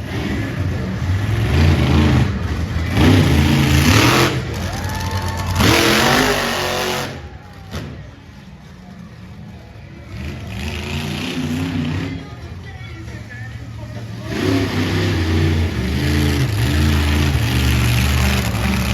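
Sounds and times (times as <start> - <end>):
monster truck engines revving: 0.0 - 18.9.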